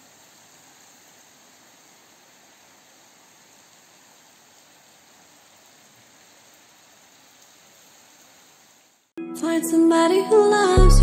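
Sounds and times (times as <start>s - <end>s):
steady rain falling: 0.0s - 9.2s.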